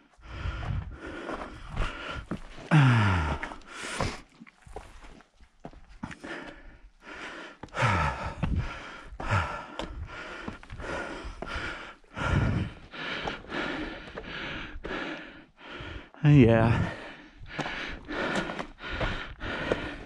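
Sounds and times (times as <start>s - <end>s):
person breathing hard: 0.0s - 5.2s, 6.0s - 20.0s.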